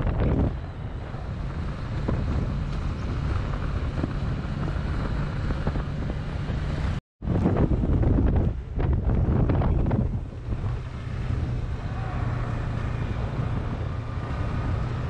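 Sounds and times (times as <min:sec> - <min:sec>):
motorcycle engine running low: 0:00.0 - 0:15.0
wind rushing over microphone: 0:00.0 - 0:15.0.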